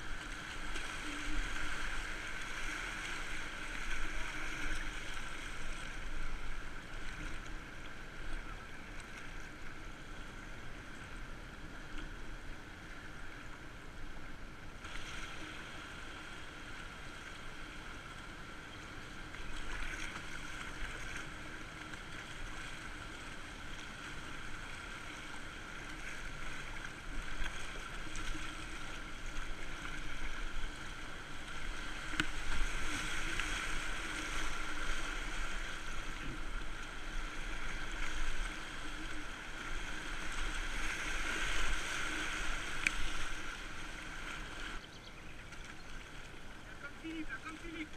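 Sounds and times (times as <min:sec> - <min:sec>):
paddle strokes churning water: 0:00.0 - 0:47.9
river water rushing and splashing: 0:00.0 - 0:47.9.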